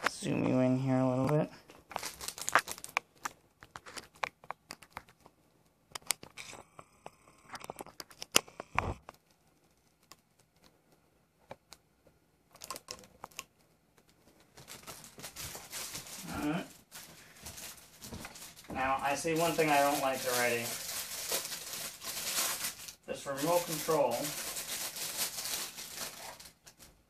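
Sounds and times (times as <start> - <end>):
light clicks and crinkling of wrapping: 0.0 - 27.0.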